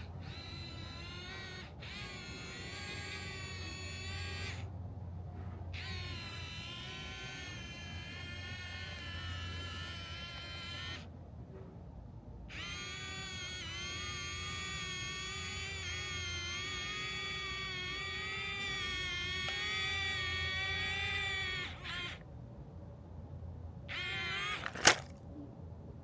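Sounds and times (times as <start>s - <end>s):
toy electric motor whining: 0.0s - 4.8s, 5.5s - 11.1s, 12.5s - 22.2s, 23.9s - 25.2s.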